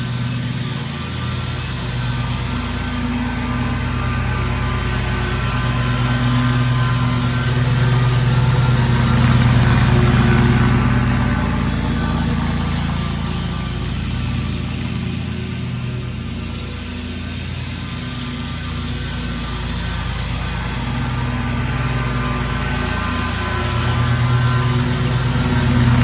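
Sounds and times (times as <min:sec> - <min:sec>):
lawn mower engine cutting grass: 0:00.0 - 0:26.0.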